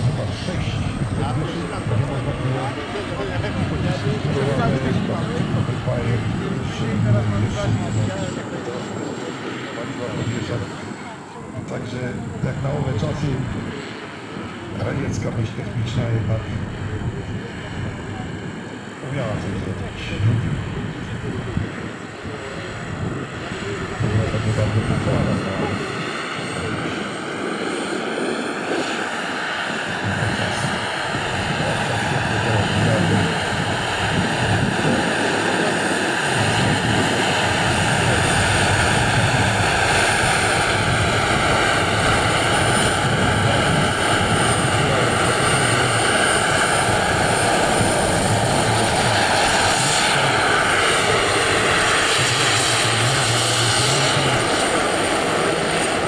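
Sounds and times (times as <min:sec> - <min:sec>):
model helicopter turbine whine: 0:00.0 - 0:56.0.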